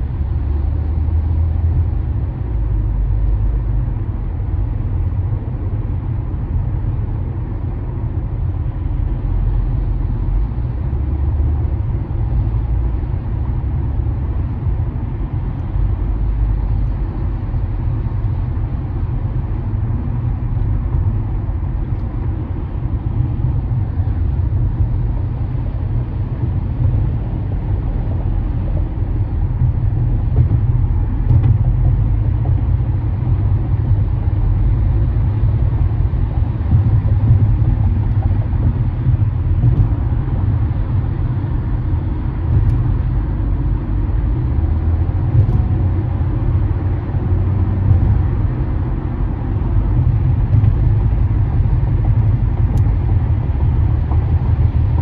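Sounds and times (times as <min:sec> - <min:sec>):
car engine cruising: 0:00.0 - 0:55.0
tyre road noise: 0:00.0 - 0:55.0.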